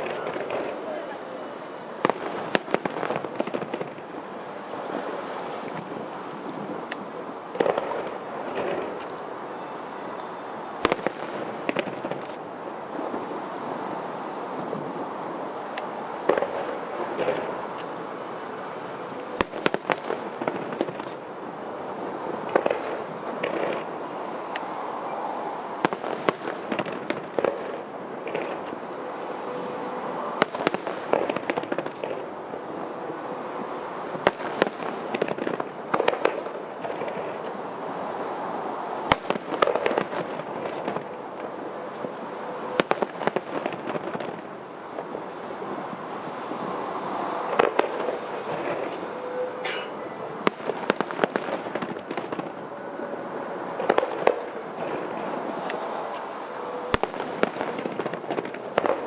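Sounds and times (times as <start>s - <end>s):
fireworks bursting: 0.0s - 59.0s
steady background noise: 0.0s - 59.0s.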